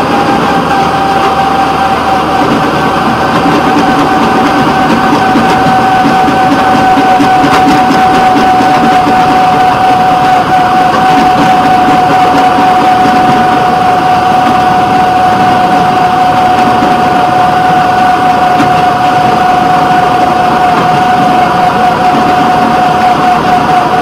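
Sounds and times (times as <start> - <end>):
high-pitched whine: 0.0 - 24.0
rail vehicle engine running: 0.0 - 24.0.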